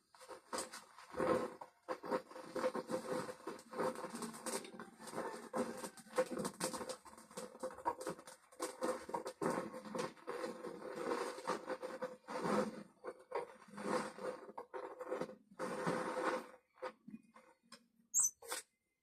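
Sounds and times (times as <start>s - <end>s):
scratching and scraping: 0.0s - 18.7s.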